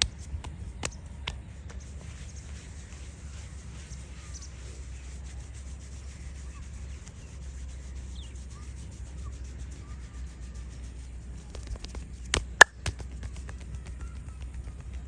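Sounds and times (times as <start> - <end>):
steady low hum: 0.0 - 15.0
hands rubbing hair and skin: 1.6 - 13.7.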